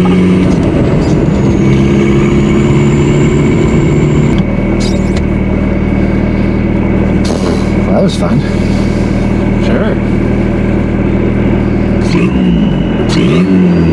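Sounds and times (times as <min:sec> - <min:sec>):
car engine running: 0:00.0 - 0:13.9.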